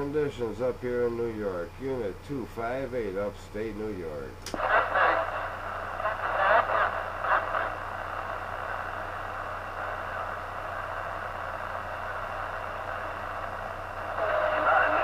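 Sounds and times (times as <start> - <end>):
faint broken radio voices: 0.0 - 15.0
low hum: 0.0 - 15.0
radio static hiss: 0.0 - 15.0.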